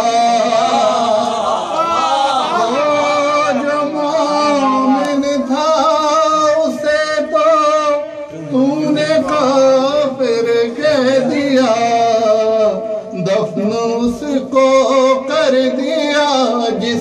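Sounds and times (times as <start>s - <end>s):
man singing devotional verse: 0.0s - 1.6s, 2.5s - 17.0s.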